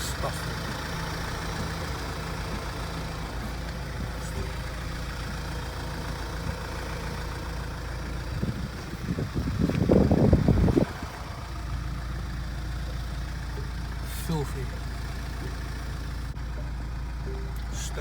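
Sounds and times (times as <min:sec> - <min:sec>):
engine idling: 0:00.0 - 0:18.0
uneven low rumbling: 0:00.0 - 0:18.0.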